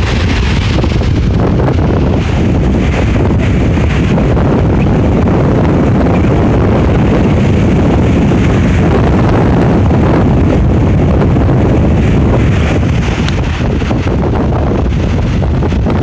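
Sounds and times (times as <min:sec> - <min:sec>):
surf breaking on shore: 0:00.0 - 0:16.0
wind buffeting microphone: 0:00.0 - 0:16.0.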